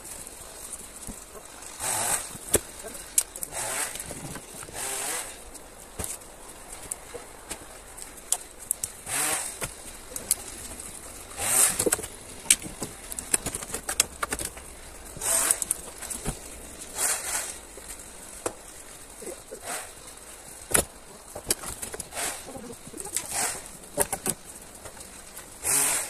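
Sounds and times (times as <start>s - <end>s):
wooden poles knocking and clattering: 0.0s - 25.5s
poles rustling and scraping: 0.0s - 26.0s.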